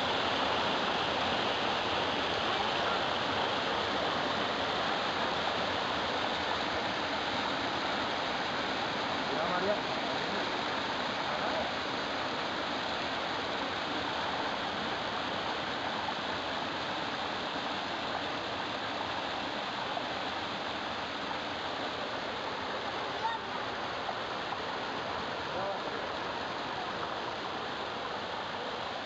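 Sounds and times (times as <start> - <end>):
stream rushing over rocks: 0.0 - 29.0.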